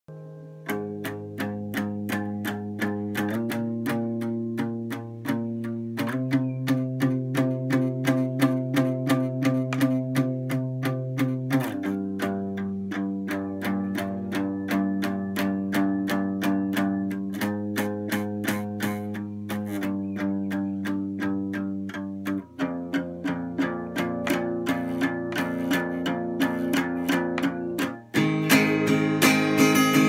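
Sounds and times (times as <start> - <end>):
guitar music: 0.1 - 30.0.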